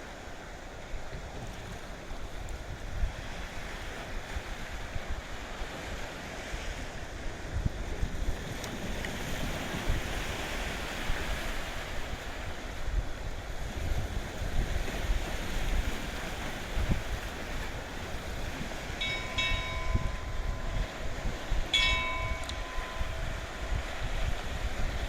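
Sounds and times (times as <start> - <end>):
wind buffeting microphone: 0.8 - 25.0.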